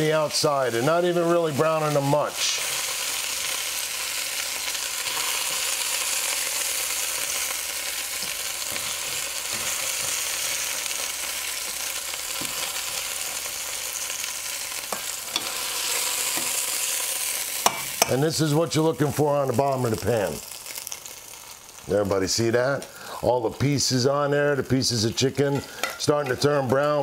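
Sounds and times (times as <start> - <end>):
chicken sizzling in a pan: 0.0 - 27.0.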